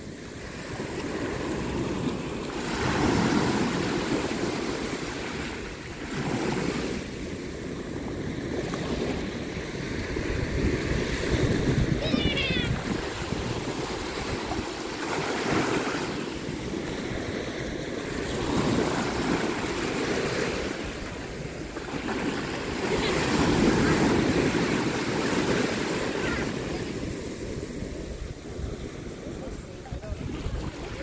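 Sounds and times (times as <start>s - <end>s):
small waves washing on beach: 0.0s - 31.0s.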